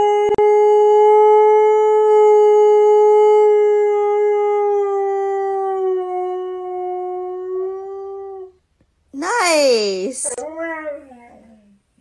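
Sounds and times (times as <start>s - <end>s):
dog howling: 0.0s - 8.6s, 10.2s - 11.8s.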